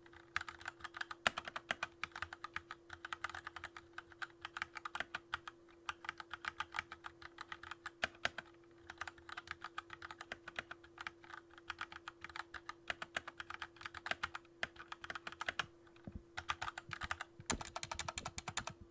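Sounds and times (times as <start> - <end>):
mechanical keyboard typing: 0.0 - 15.7, 16.4 - 18.8.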